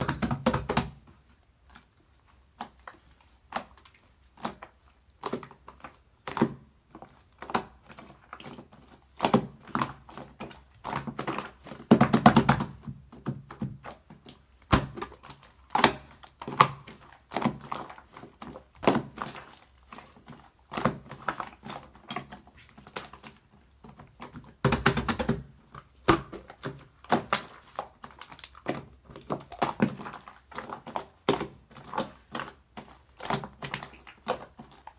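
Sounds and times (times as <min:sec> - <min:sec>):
slime squishing and clicking: 0:00.0 - 0:34.9.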